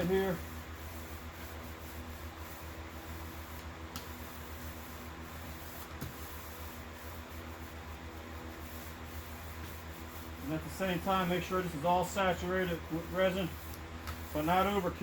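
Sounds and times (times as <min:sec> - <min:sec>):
roller rubbing wet fiberglass: 0:00.0 - 0:15.0
steady low hum: 0:00.0 - 0:15.0.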